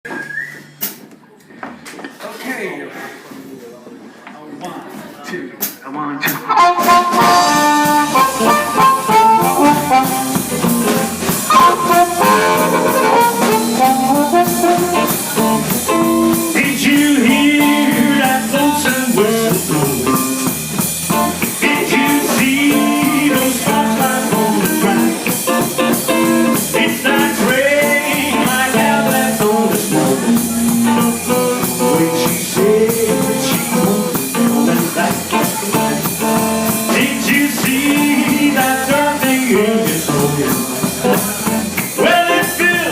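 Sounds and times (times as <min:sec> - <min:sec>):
live band playing blues: 0:05.6 - 0:42.9.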